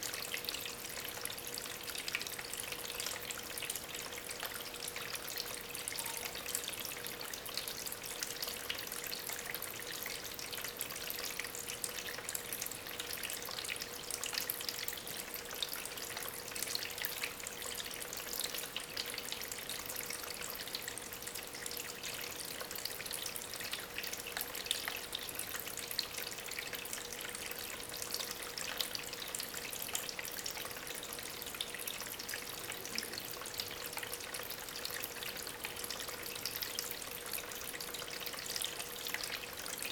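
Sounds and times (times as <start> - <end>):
faint steady hum: 0.0 - 39.9
water trickling over stones: 0.0 - 39.9.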